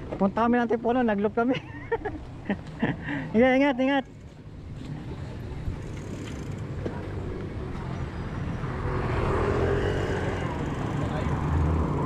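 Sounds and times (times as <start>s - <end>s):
bicycle road noise: 0.0s - 12.0s.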